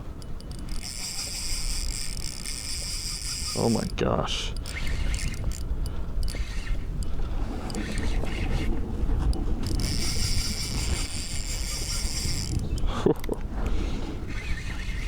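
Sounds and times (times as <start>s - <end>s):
fishing reel whirring: 0.0s - 15.0s
wind on microphone: 0.0s - 15.0s.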